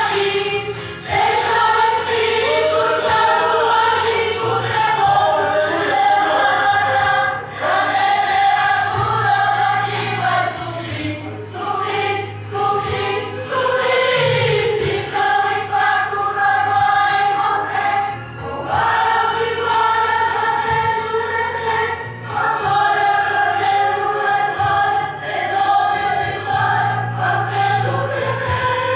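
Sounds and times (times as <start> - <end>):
choir singing held notes: 0.0 - 28.9
steady bass accompaniment: 0.0 - 28.9.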